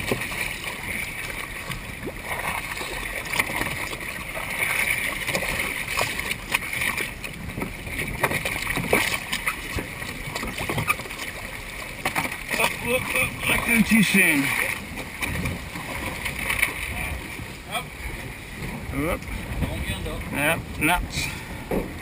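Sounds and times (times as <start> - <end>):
water sloshing against hulls: 0.0 - 22.0.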